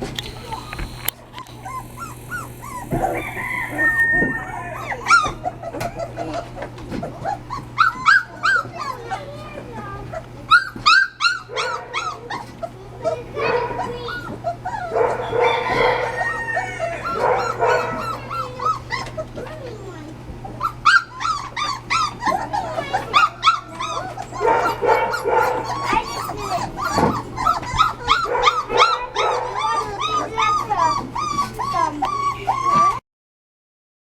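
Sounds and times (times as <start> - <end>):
puppies whining and yelping: 0.3 - 33.0.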